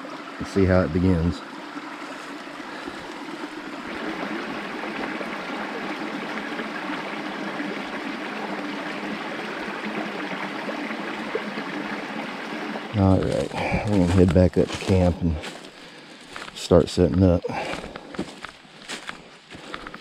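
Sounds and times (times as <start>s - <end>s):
stream flowing over rocks: 0.0s - 20.0s.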